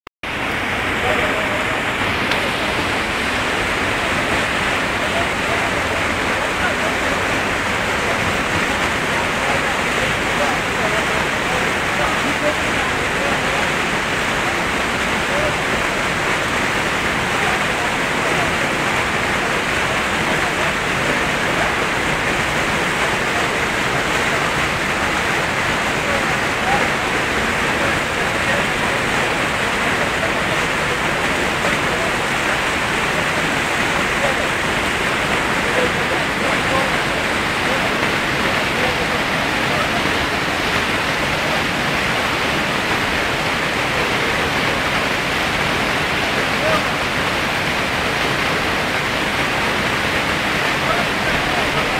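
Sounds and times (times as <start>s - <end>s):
river rushing over boulders: 0.2s - 51.9s.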